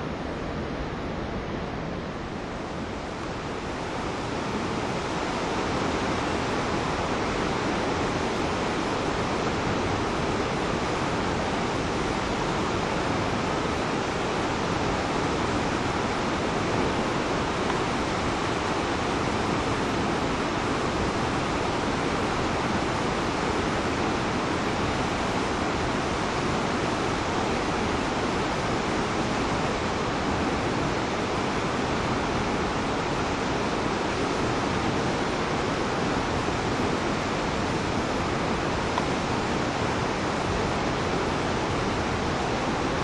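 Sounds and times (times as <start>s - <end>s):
waterfall rushing: 0.0s - 43.0s
churning river water: 0.1s - 43.0s.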